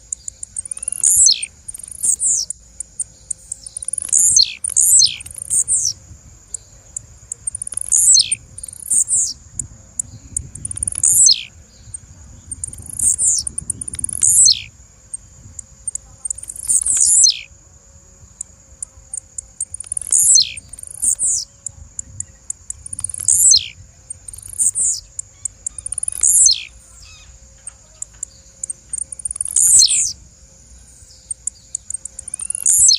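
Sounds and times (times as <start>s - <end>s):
bird calling: 0.0s - 15.2s, 15.9s - 17.5s, 18.4s - 30.2s, 30.8s - 32.9s.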